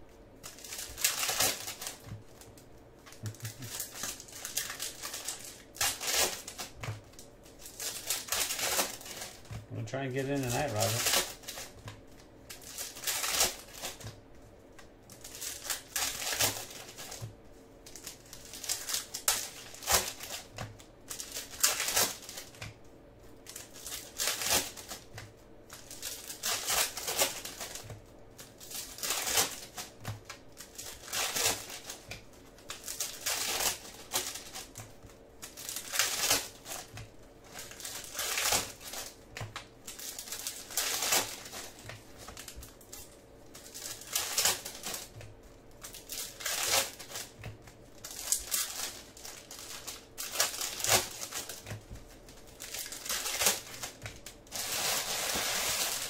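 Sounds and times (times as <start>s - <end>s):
wrappers tearing and crinkling: 0.4s - 22.8s, 23.4s - 56.0s.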